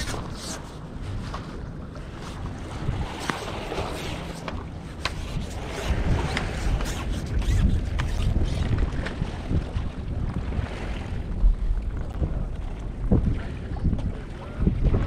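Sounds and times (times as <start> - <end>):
water lapping against rocks: 0.0 - 15.0
wind buffeting microphone: 0.0 - 15.0.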